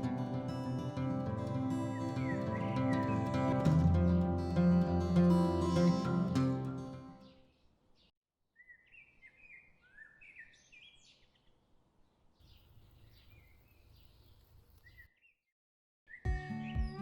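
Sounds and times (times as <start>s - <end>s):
faint bird chirping: 1.2s - 15.5s.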